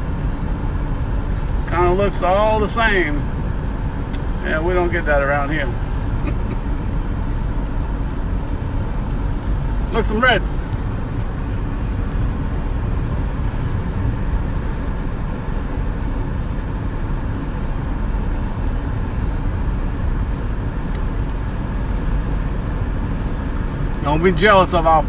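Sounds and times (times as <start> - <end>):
heavy low rumble: 0.0 - 25.0.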